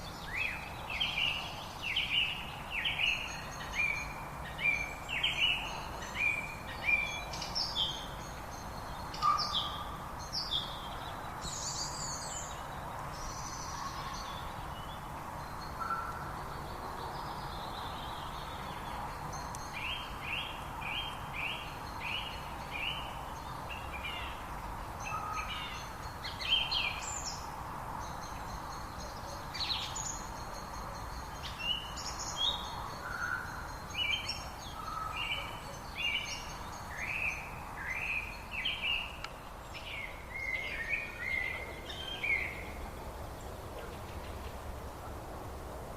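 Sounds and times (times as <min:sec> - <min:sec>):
songbirds singing and chirping: 0:00.0 - 0:45.9
steady background noise: 0:00.0 - 0:45.9.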